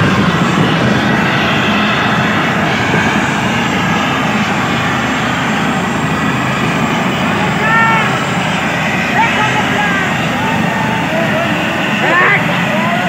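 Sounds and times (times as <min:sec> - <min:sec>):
helicopter turbine and rotor drone: 0:00.0 - 0:13.0.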